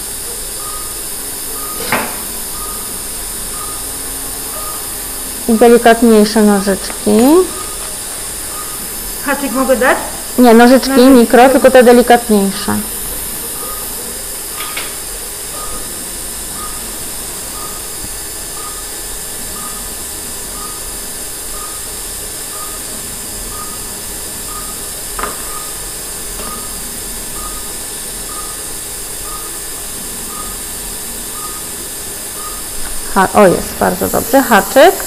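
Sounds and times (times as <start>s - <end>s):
patient monitor beeping: 0.0s - 35.0s.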